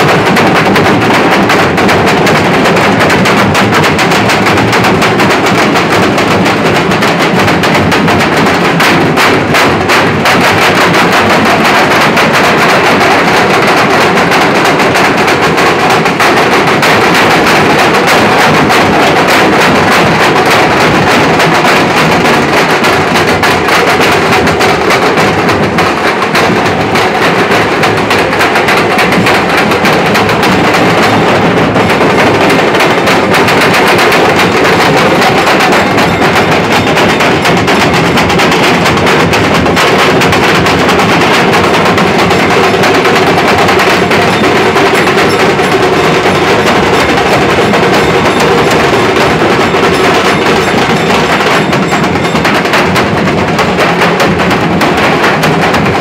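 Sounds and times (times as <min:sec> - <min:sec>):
barrel drums beaten together: 0:00.0 - 0:56.0.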